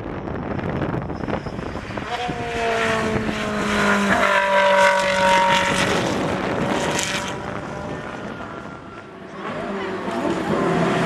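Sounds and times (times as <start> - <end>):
race car driving past: 1.6 - 11.0.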